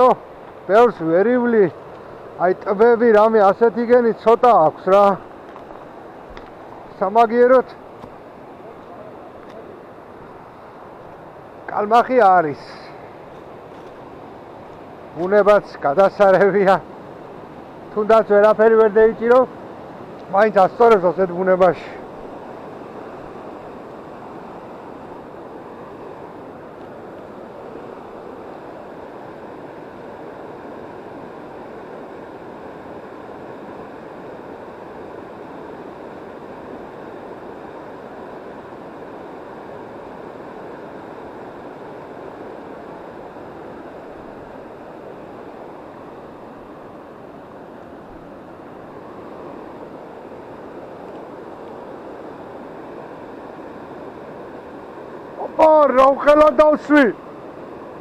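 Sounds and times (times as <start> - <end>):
river rushing: 0.0 - 58.0.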